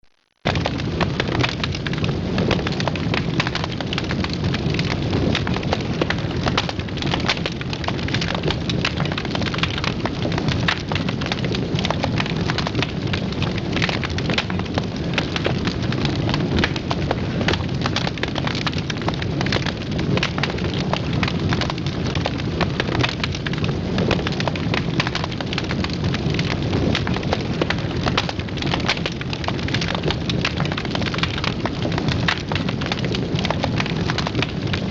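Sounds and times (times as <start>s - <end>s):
fire crackling: 0.0s - 34.9s
flames rumbling: 0.3s - 34.9s.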